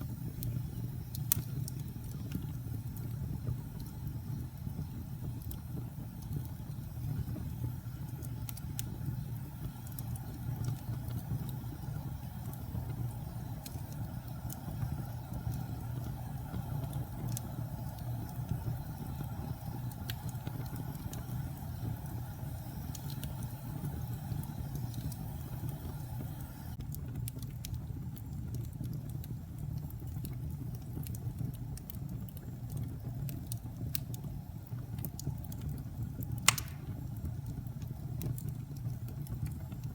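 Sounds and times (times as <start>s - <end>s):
fire crackles and pops: 0.0s - 39.9s
wood fire rumbling: 0.0s - 39.9s.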